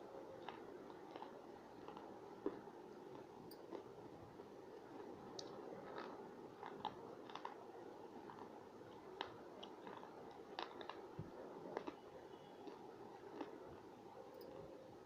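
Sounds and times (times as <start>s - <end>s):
small clicks and crunches: 0.4s - 14.6s.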